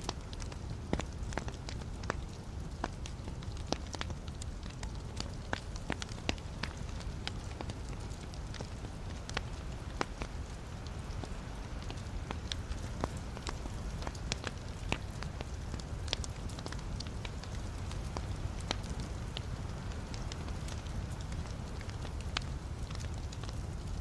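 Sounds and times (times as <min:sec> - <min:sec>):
burning logs crackling: 0:00.0 - 0:24.0
low rumble of fire: 0:00.0 - 0:24.0.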